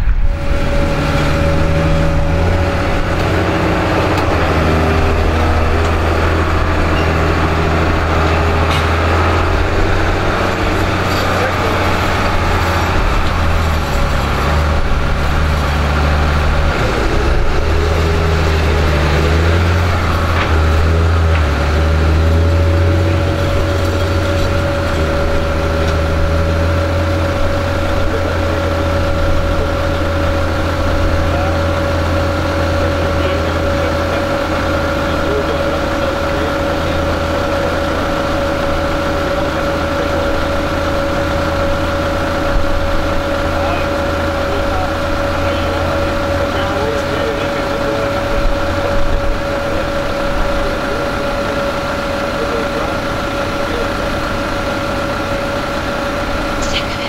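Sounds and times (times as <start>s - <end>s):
steady whine: 0.0s - 57.0s
tractor diesel engine running: 0.0s - 57.0s.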